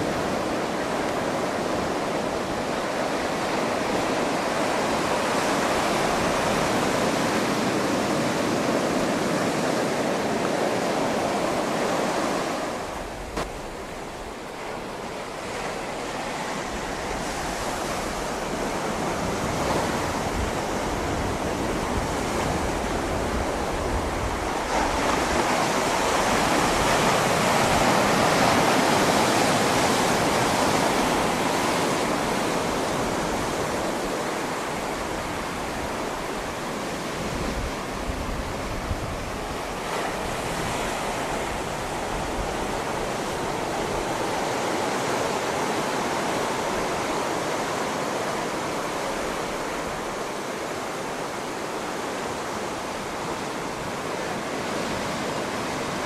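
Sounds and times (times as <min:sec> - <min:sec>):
ocean surf breaking on rocks: 0:00.0 - 0:56.0.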